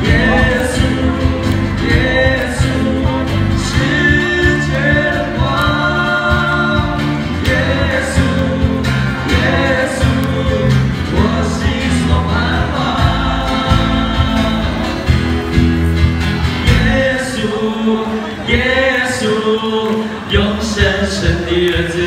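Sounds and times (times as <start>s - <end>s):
group singing a hymn: 0.0s - 15.2s, 16.6s - 22.0s
amplified instrumental backing: 0.0s - 18.9s.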